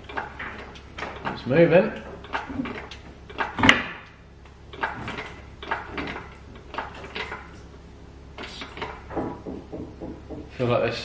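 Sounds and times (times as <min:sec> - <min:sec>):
engine crane clunks and knocks: 0:00.0 - 0:10.8.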